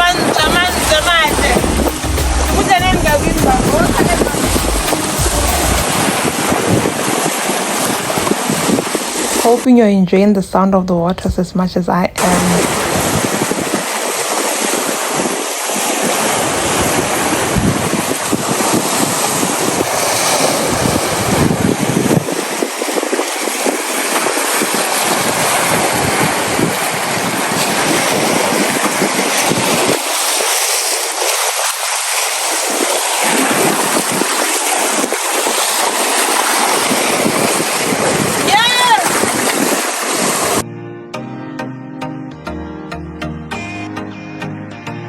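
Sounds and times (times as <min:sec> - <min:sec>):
waves washing onto shore: 0:00.0 - 0:09.7, 0:12.2 - 0:40.6
wind buffeting microphone: 0:00.0 - 0:40.6.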